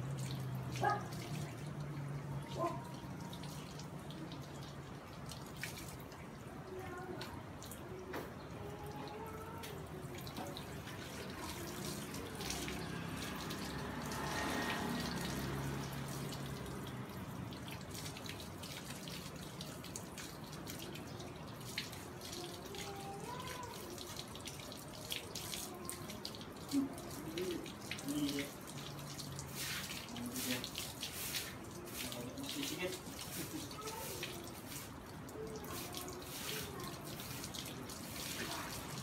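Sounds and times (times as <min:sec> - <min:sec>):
hose water splashing on dog: 0:00.0 - 0:39.0.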